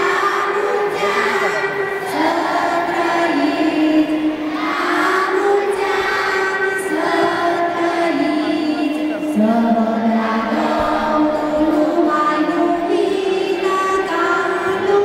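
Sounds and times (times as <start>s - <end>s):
children singing in unison: 0.0s - 15.0s.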